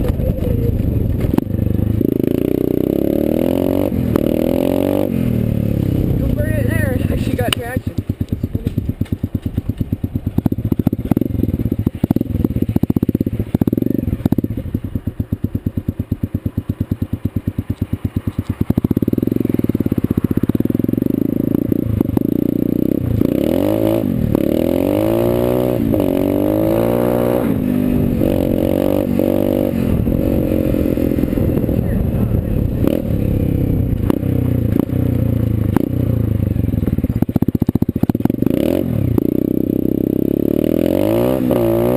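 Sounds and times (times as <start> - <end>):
dirt bike engine: 0.0 - 41.9.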